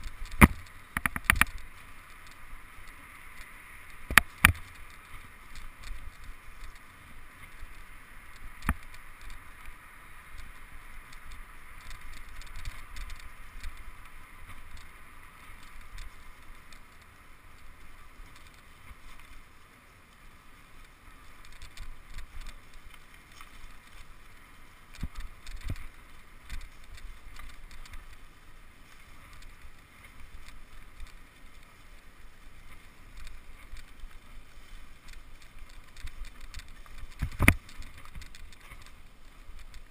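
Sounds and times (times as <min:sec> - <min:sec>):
bicycle tyres on dirt trail: 0:00.0 - 0:39.9.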